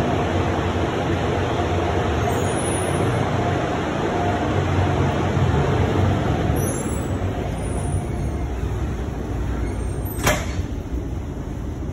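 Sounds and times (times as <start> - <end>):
steady rumbling noise: 0.0 - 11.9.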